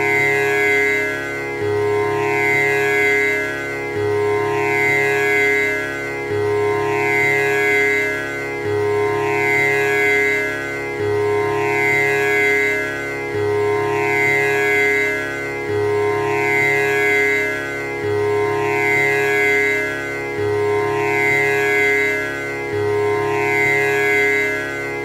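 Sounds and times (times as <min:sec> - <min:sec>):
tanpura strings drone: 0:00.0 - 0:25.0.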